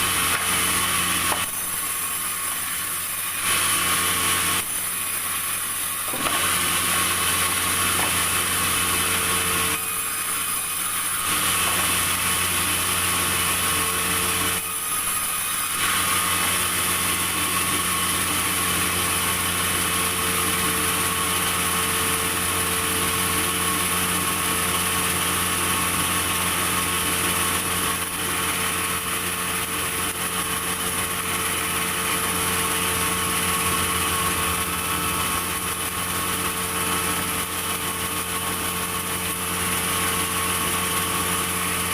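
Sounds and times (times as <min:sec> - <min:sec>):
high machine whine: 0:00.0 - 0:41.9
sawmill machinery humming: 0:00.0 - 0:41.9.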